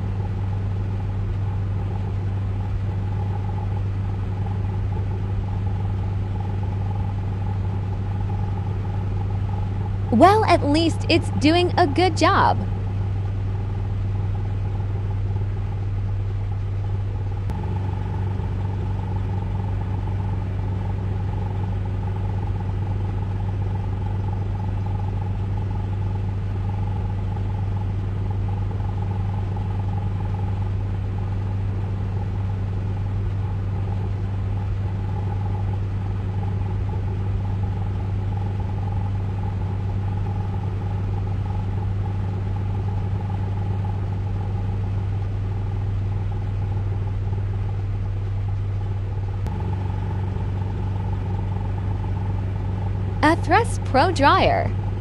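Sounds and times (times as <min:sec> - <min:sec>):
car wash hum and rumble: 0:00.0 - 0:10.8, 0:12.6 - 0:55.0.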